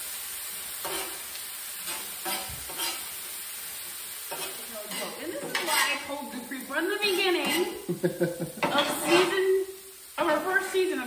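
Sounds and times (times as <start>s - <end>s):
food sizzling on griddle: 0.0s - 11.0s
spatula scraping griddle: 0.7s - 9.6s, 10.2s - 11.0s.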